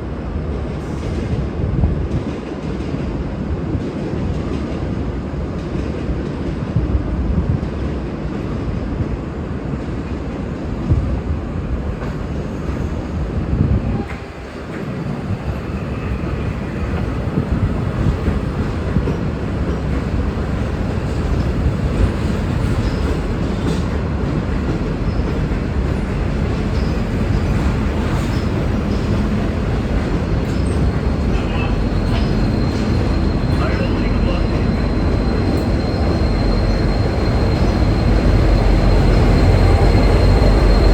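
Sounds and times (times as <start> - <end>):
diesel locomotive engine rumble: 6.8 - 40.9.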